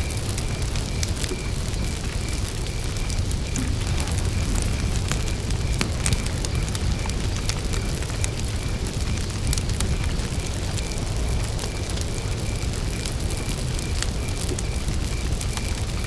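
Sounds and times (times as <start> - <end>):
campfire crackling and popping: 0.0 - 16.0
cricket chirping: 0.0 - 16.0
fire rumbling: 0.0 - 16.0.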